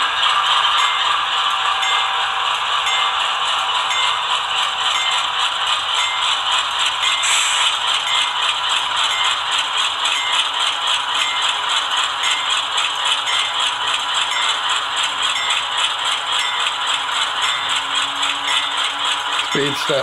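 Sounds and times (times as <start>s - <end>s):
model diesel locomotive engine idling: 0.0s - 20.0s.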